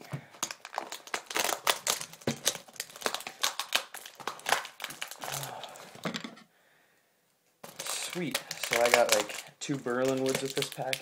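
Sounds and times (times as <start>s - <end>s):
plastic packaging crinkling: 0.1s - 6.1s, 7.6s - 11.0s.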